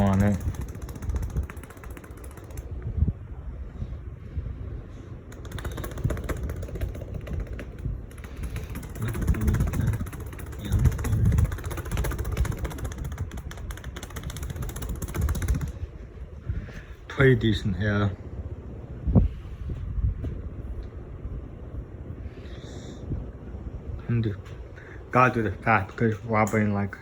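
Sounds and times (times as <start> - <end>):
ceiling fan running: 0.0 - 27.0.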